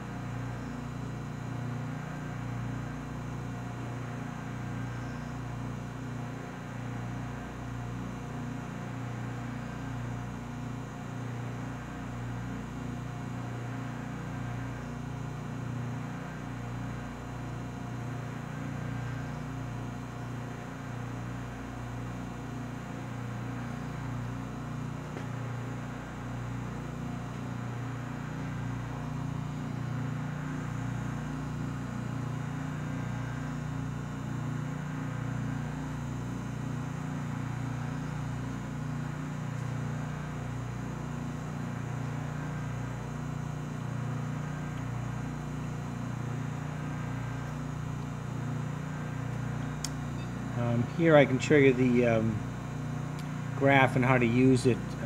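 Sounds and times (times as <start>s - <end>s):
vacuum furnace machine hum: 0.0s - 55.0s.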